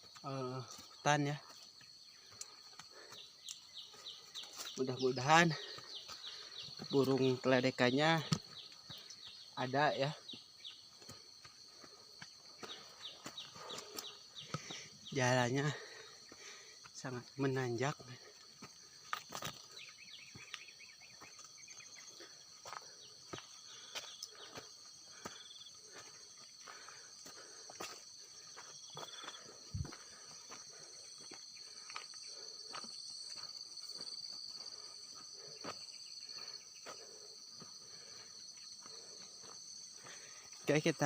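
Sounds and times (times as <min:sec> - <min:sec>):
chorus of forest insects: 0:00.0 - 0:41.0
footsteps on a trail: 0:00.0 - 0:41.0.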